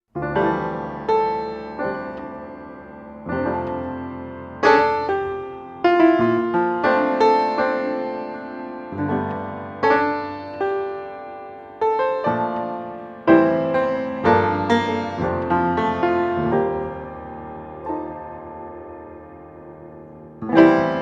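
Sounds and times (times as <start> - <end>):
slow piano chords: 0.1 - 21.0.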